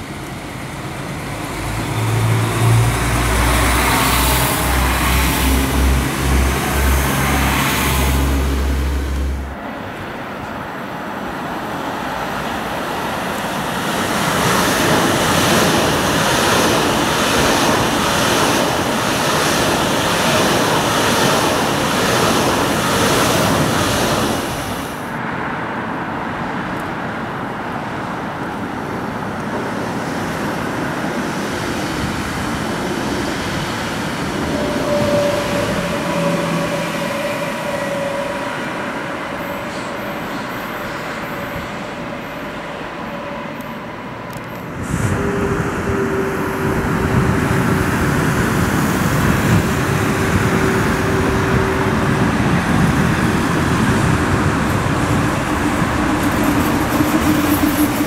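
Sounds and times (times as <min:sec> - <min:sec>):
high-speed train passing: 0:00.0 - 0:58.0
traffic noise: 0:00.0 - 0:58.0
train approaching with whine: 0:00.0 - 0:58.0.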